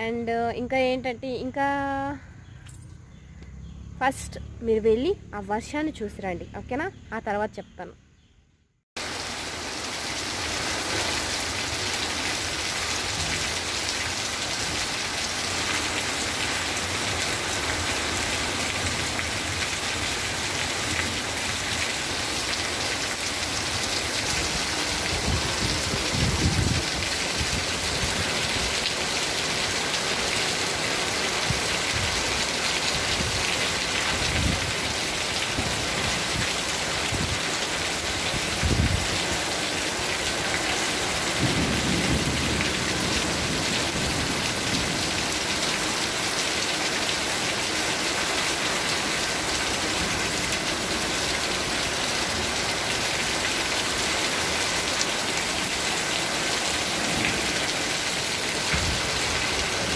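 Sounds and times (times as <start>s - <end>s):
heavy wind-driven rain: 9.0s - 59.9s.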